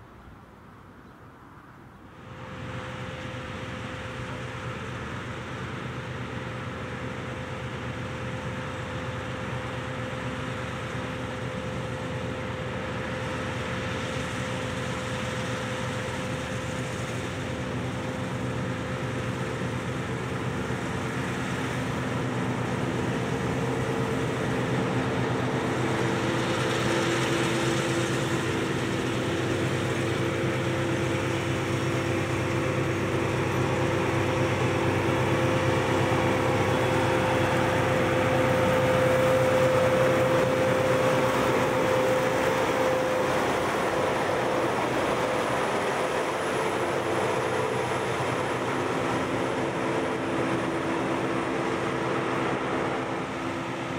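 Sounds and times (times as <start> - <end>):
combine harvester running: 2.1 - 53.9.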